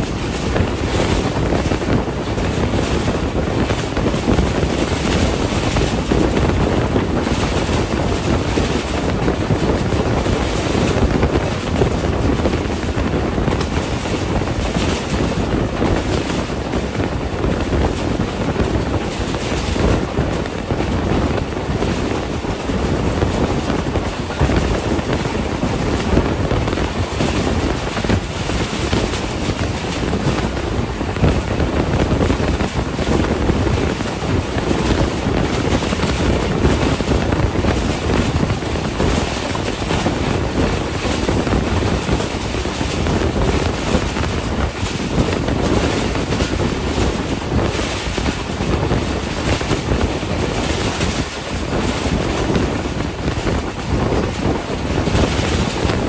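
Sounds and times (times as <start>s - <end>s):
train wheels rumbling on rail: 0.0s - 56.0s
wind rushing past microphone: 0.0s - 56.0s.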